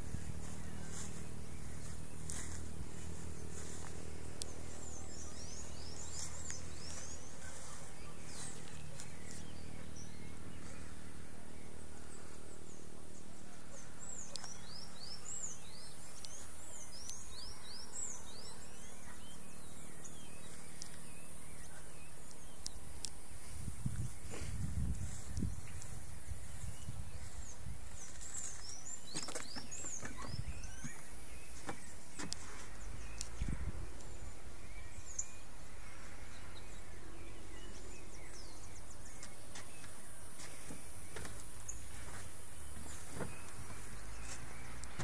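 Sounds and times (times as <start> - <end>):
bird singing high downward notes: 0.0 - 45.0
steady low hum: 0.0 - 45.0.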